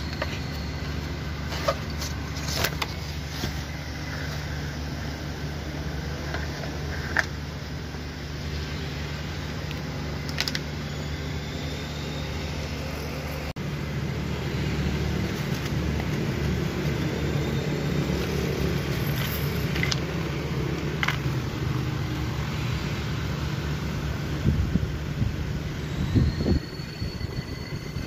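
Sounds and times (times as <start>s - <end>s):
machine humming: 0.0s - 24.1s.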